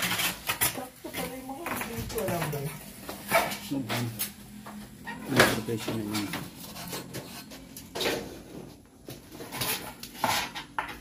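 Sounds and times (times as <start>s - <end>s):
knocks and scrapes: 0.0s - 11.0s.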